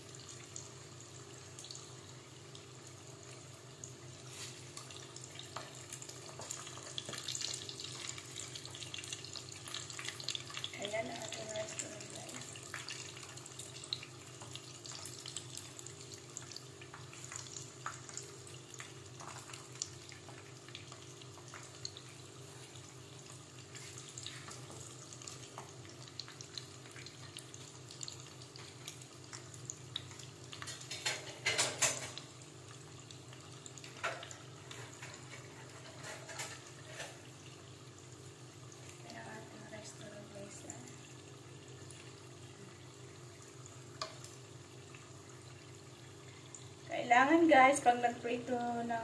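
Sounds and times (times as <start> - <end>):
food deep-frying in oil: 0.0 - 49.0.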